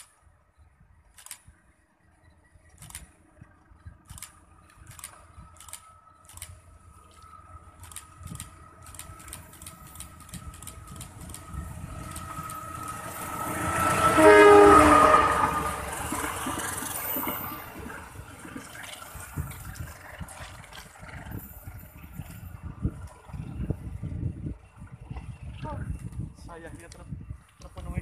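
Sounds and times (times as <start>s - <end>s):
locomotive engine rumble: 0.0s - 28.0s.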